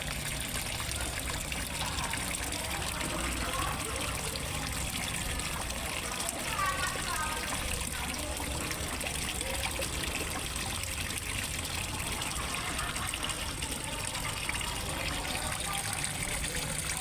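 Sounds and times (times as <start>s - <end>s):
water splashing into pond: 0.0s - 17.0s.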